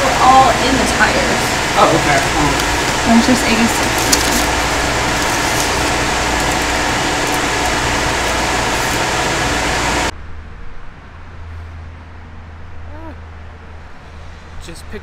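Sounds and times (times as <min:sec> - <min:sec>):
car road and engine noise: 0:00.0 - 0:15.0
low steady hum: 0:00.0 - 0:15.0.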